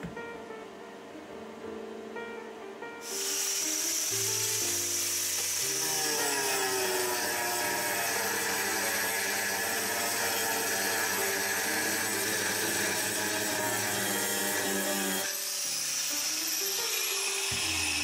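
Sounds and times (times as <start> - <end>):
angle grinder cutting metal: 3.0 - 18.0.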